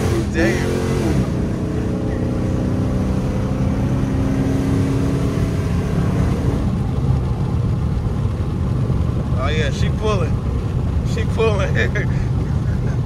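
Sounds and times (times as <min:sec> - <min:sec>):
car engine drone from cabin: 0:00.0 - 0:13.0.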